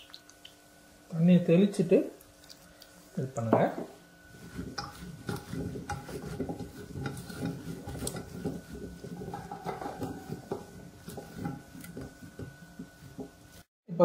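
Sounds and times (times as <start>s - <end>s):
hand mixing food rustling squishing: 0.0s - 13.7s.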